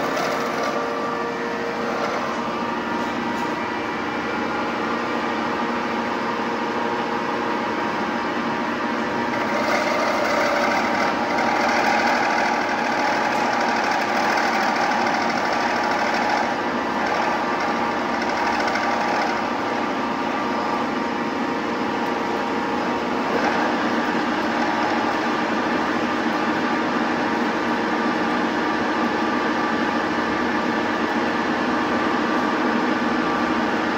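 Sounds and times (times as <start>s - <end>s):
lathe running: 0.0s - 30.9s.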